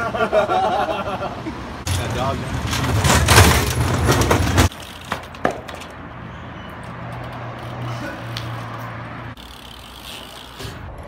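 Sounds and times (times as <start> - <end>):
street traffic engine hum: 0.0 - 11.0.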